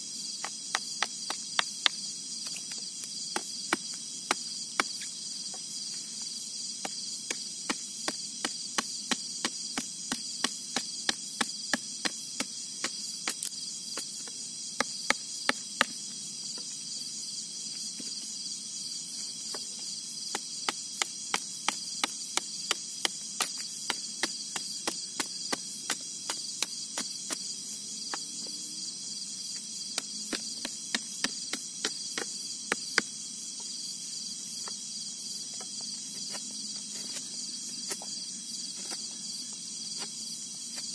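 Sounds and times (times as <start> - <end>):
crickets and insects chirping: 0.0 - 40.9.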